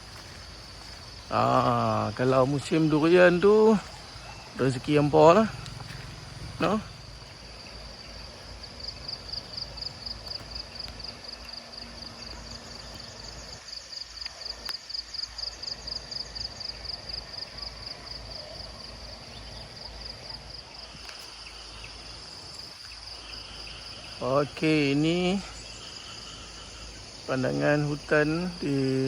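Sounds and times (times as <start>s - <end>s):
insect trilling chirps: 0.0s - 29.0s.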